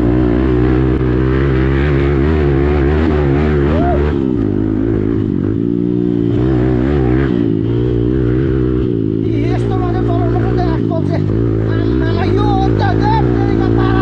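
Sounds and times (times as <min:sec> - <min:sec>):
motorcycle exhaust revving: 0:00.0 - 0:14.0.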